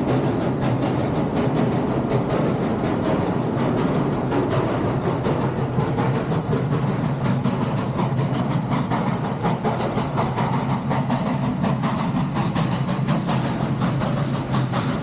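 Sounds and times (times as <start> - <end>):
steam train rumbling and clicking: 0.0 - 15.0.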